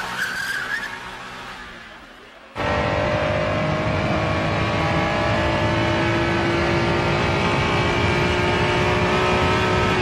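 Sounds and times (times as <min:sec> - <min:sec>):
car engine pulling hard: 0:00.0 - 0:10.0.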